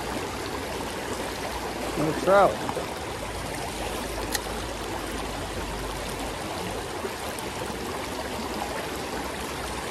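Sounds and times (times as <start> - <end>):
creek water rushing over rocks: 0.0 - 9.9.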